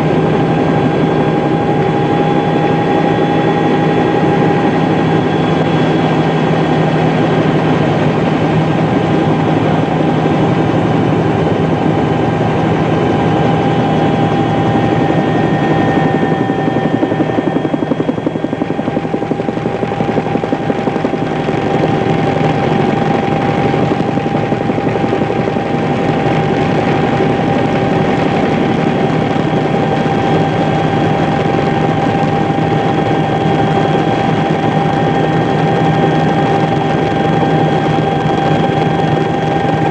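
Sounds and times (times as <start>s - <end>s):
engine drone with high whine: 0.0s - 39.9s.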